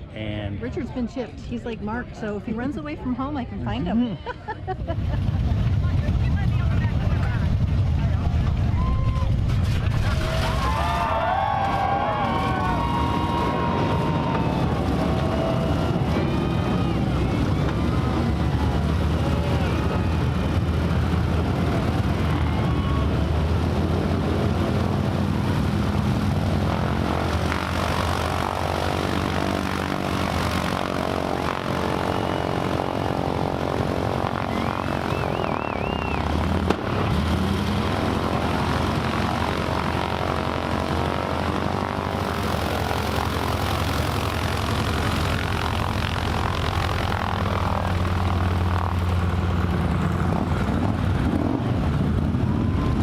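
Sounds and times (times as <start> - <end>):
motorcycle engines rumbling: 0.0 - 53.0
propeller plane engine drone: 0.0 - 53.0.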